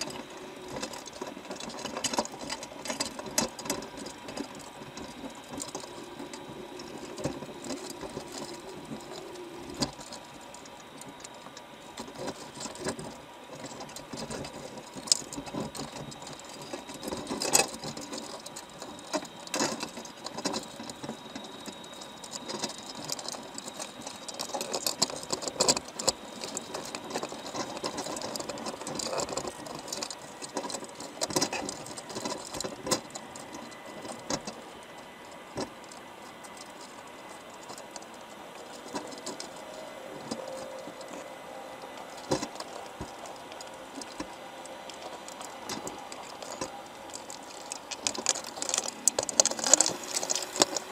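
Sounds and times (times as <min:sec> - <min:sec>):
crab shells clicking underwater: 0:00.0 - 0:50.9.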